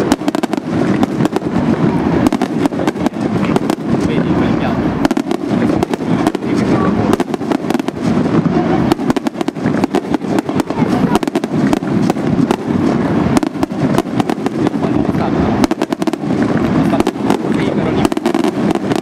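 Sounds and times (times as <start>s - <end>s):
fireworks bangs and crackling: 0.0s - 19.0s
low rumble: 0.0s - 19.0s.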